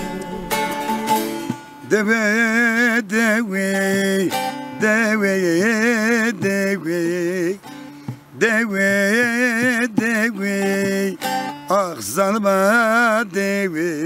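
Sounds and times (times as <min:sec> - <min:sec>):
long-necked lute plucked and strummed: 0:00.0 - 0:14.0
man singing a folk lament: 0:00.0 - 0:14.0.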